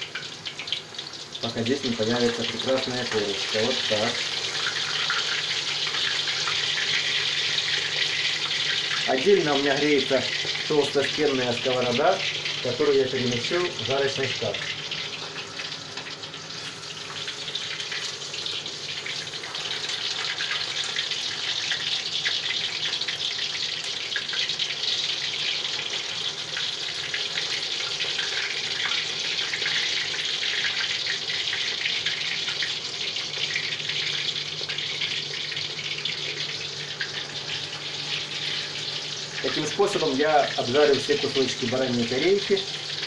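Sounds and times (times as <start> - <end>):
meat sizzling in hot fat: 0.0 - 43.0.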